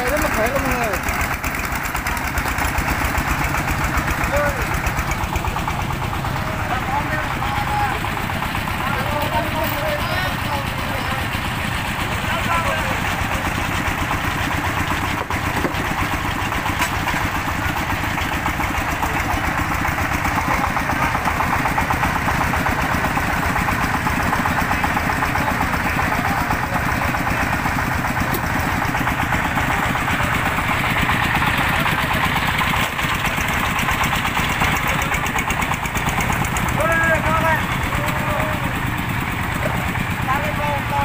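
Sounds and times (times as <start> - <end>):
single-cylinder diesel engine running: 0.0 - 41.0.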